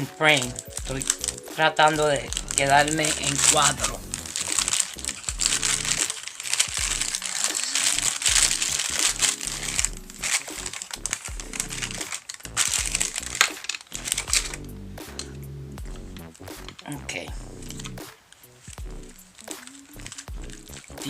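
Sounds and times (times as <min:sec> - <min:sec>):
background music: 0:00.0 - 0:21.0
packaging crinkling: 0:00.1 - 0:21.0.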